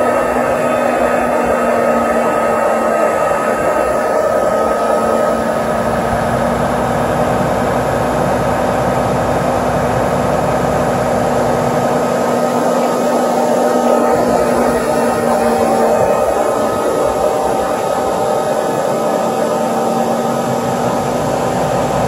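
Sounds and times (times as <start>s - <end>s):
steady machine whine: 0.0s - 22.0s
tractor running: 0.0s - 22.0s.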